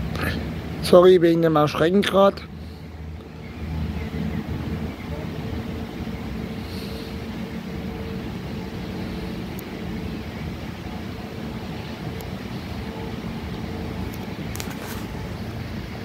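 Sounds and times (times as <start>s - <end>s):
diesel railcar engine droning: 0.0s - 16.0s
faint held whine: 0.0s - 16.0s.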